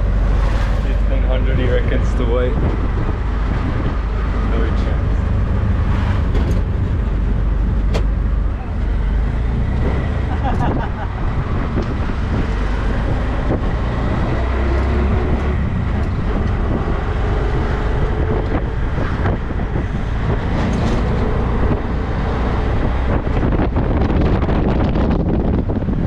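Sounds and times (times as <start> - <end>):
vehicle engine running: 0.0 - 25.9
wind buffeting microphone: 0.0 - 26.0.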